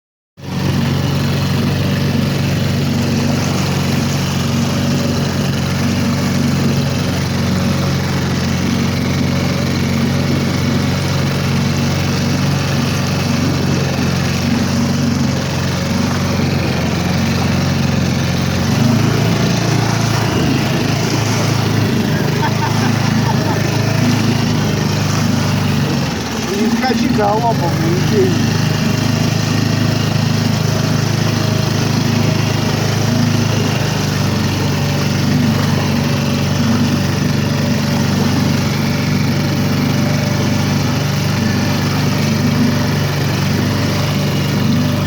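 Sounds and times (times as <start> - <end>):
engine running: 0.4 - 45.0.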